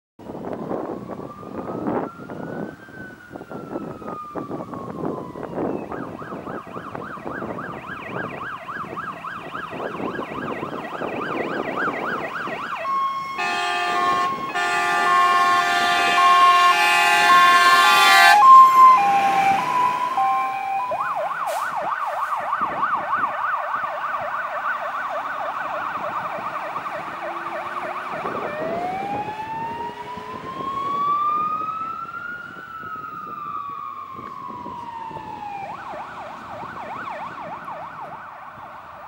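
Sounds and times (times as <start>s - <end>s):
fire engine siren: 0.2s - 39.0s.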